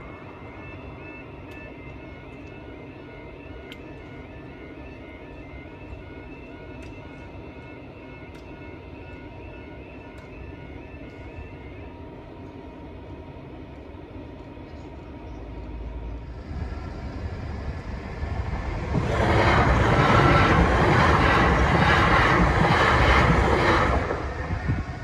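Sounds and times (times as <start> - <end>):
rhythmic clatter of wheels: 0.0 - 25.0
train passing at speed: 0.0 - 25.0.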